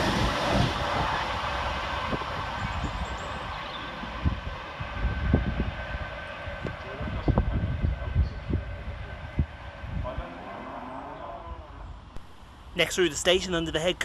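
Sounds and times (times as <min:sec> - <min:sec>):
electric train passing: 0:00.0 - 0:13.9.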